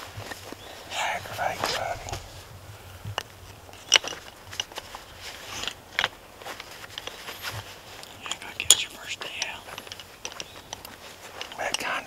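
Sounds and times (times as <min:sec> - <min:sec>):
light scratching: 0:00.0 - 0:12.0.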